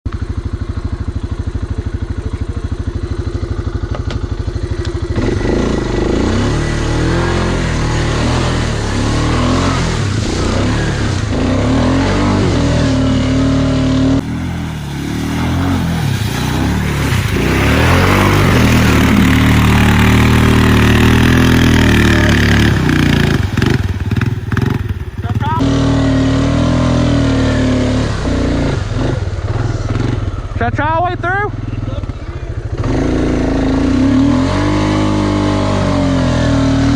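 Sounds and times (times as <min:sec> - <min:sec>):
off-road vehicle engine revving: 0:00.1 - 0:36.9.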